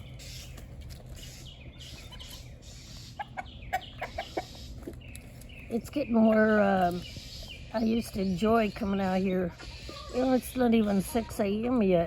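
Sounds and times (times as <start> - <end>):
low background hum: 0.0 - 12.0
young chickens clucking: 0.0 - 12.0.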